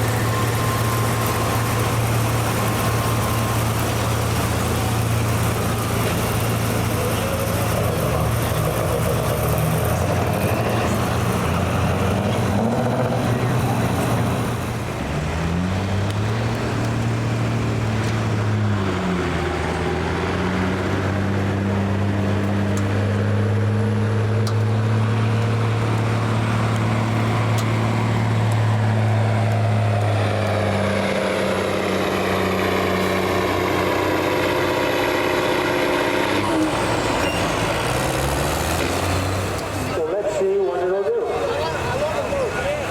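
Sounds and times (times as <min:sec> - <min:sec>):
truck engine running under load: 0:00.0 - 0:42.9.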